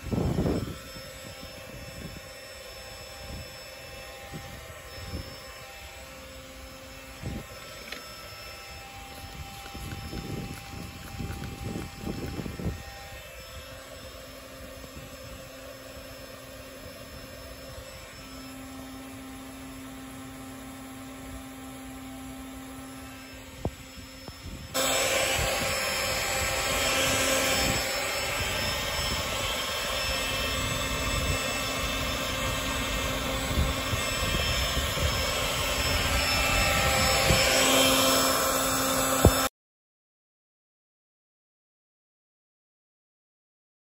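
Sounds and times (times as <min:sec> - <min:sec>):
electric air pump humming: 0:00.0 - 0:39.5.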